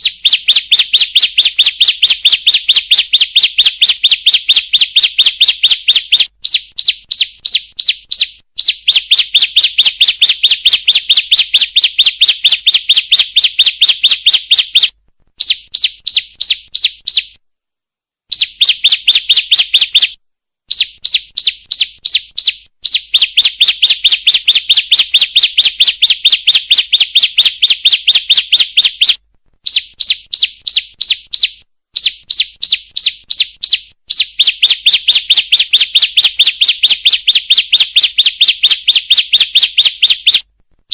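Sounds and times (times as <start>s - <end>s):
bird sharp high chirps: 0.0s - 17.4s, 18.3s - 40.5s.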